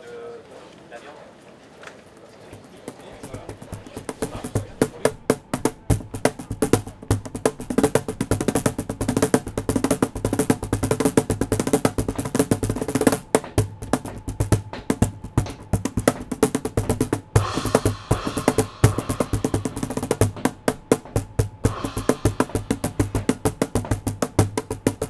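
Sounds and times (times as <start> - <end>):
cajon slaps and thumps: 2.5 - 25.0.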